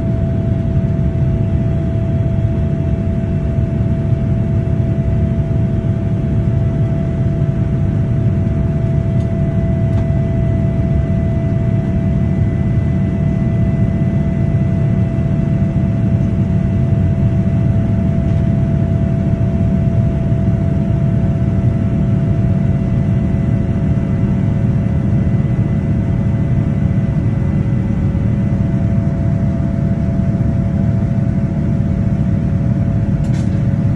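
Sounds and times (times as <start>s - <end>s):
jet engines rumbling in cabin: 0.0s - 33.9s.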